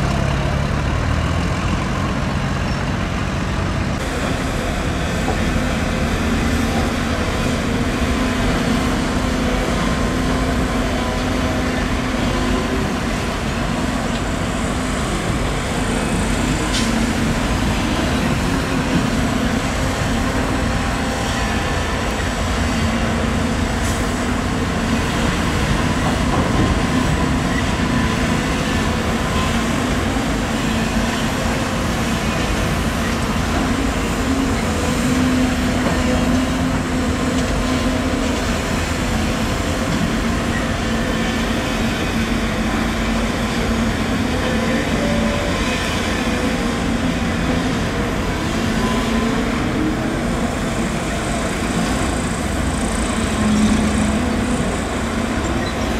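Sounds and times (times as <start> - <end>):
excavator diesel engine drone: 0.0 - 55.9.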